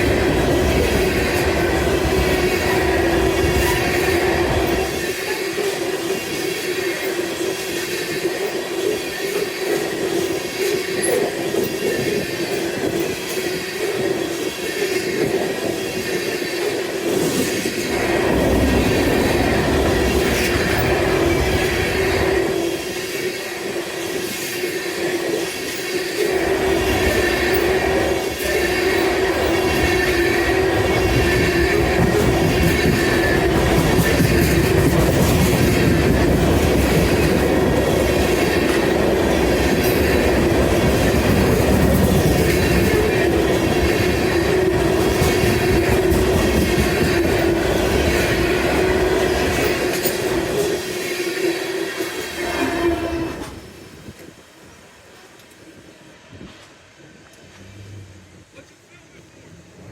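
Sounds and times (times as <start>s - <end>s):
train wheels squealing: 0.0s - 53.8s
train wheels clicking over rail joints: 0.0s - 54.4s.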